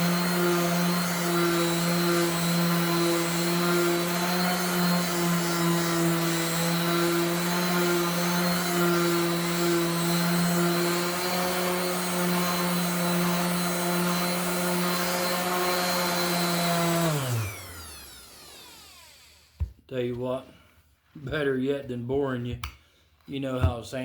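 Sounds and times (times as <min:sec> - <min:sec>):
electric sander on wood: 0:00.0 - 0:19.6.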